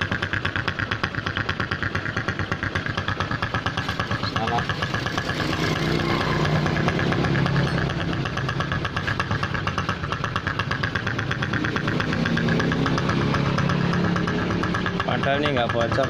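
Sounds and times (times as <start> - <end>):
motorcycle engine idling unevenly: 0.0 - 16.0.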